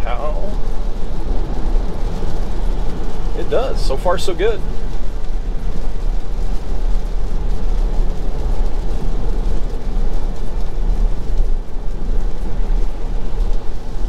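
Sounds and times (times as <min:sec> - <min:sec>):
rain on car: 0:00.0 - 0:14.0
tyres hissing on wet road: 0:00.0 - 0:14.0.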